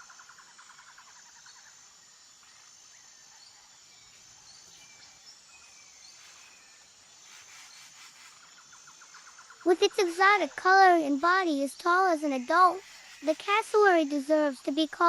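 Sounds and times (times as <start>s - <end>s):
bird chirps: 0.0s - 10.0s, 11.0s - 14.4s
insect-like drone: 0.0s - 15.0s.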